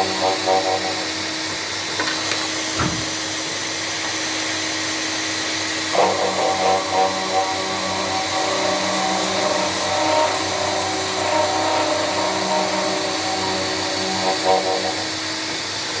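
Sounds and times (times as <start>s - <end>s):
cnc machine hum and whine: 0.0s - 16.0s.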